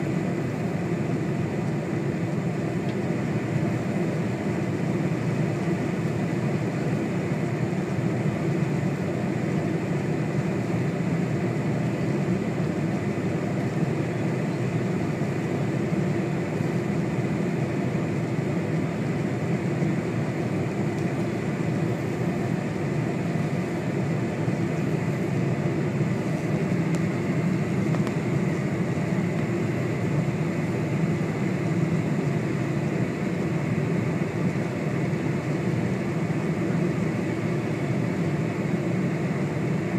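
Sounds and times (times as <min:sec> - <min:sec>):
faint steady whine: 0:00.0 - 0:39.9
jet engine drone: 0:00.0 - 0:39.9.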